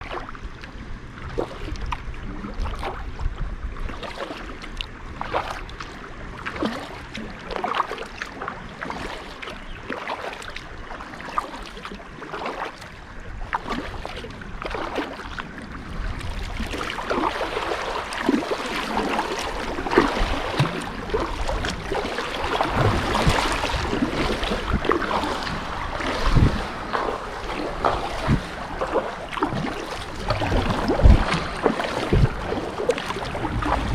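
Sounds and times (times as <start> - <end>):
paddle splashes: 0.0 - 33.9
water slapping against kayak hull: 0.0 - 33.9.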